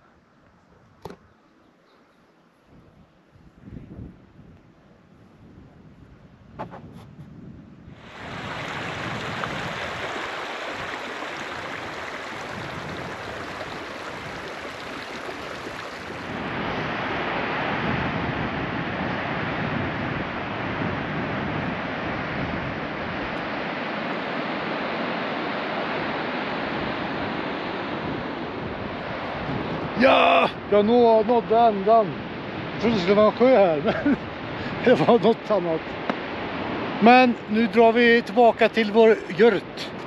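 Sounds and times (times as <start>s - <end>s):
wind rushing over microphone: 2.6s - 40.0s.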